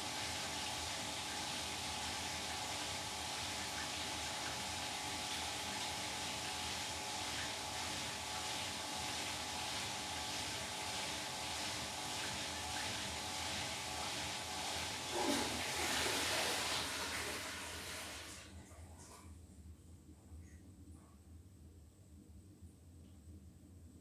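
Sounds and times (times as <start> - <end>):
washing machine whirring: 0.0 - 20.4.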